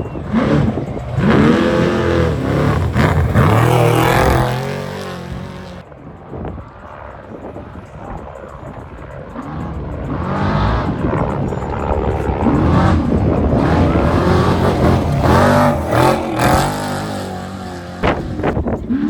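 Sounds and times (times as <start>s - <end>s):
race vehicle engine revving: 0.0s - 5.8s, 9.4s - 19.0s.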